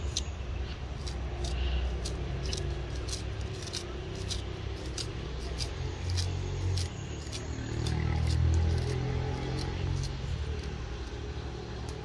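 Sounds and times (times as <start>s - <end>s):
knife snipping scallion: 0.9s - 11.2s.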